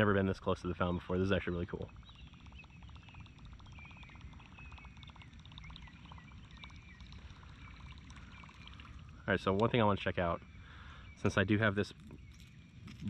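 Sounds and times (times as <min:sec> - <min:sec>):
frogs clicking calls: 0:00.0 - 0:13.0.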